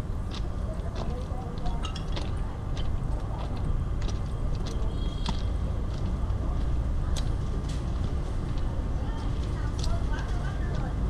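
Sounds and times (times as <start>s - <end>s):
low street rumble: 0.0s - 11.0s
faint voices: 0.4s - 11.0s.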